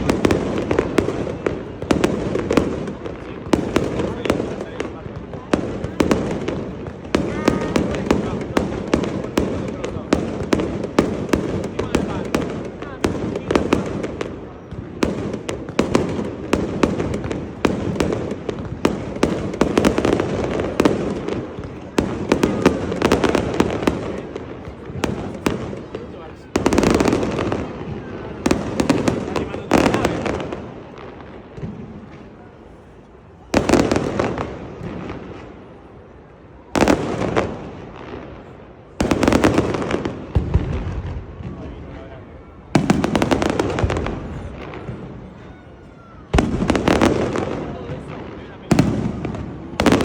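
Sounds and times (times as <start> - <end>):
fireworks cracks and bangs: 0.0 - 50.0.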